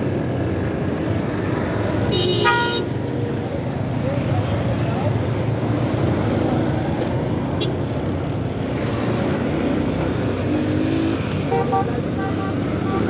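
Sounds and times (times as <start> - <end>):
surrounding traffic: 0.0 - 13.0.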